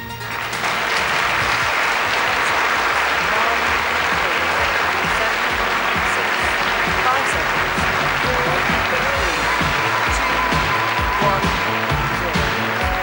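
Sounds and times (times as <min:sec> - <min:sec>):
audience applauding: 0:00.0 - 0:13.0
faint music: 0:00.0 - 0:13.0.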